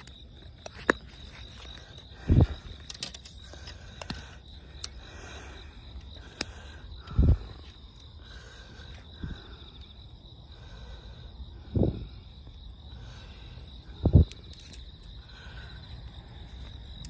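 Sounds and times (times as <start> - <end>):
high-pitched insect song: 0.0 - 17.0.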